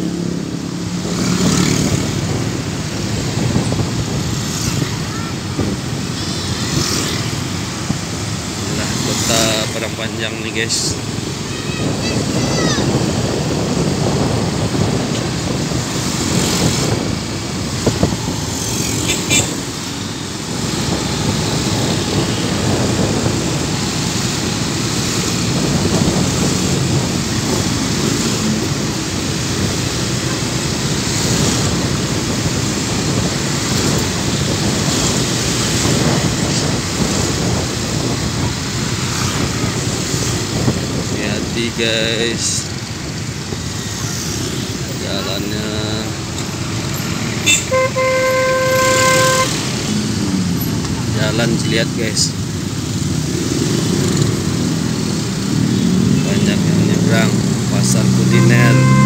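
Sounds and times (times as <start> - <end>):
motorcycle road noise: 0.0 - 59.0.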